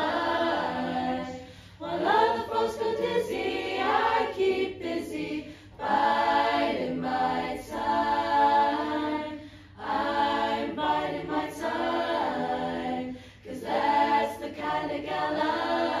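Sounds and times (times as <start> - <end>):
girls singing in close harmony: 0.0 - 16.0.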